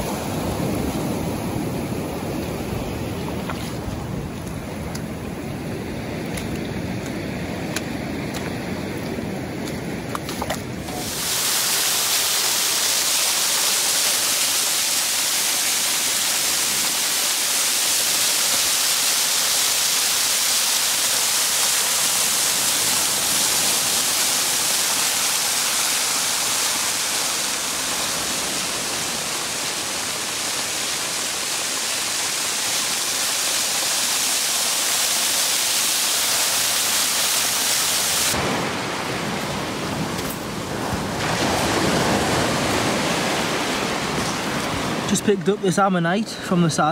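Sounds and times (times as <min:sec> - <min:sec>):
waterfall rushing: 0:00.0 - 0:03.2, 0:10.7 - 0:45.4.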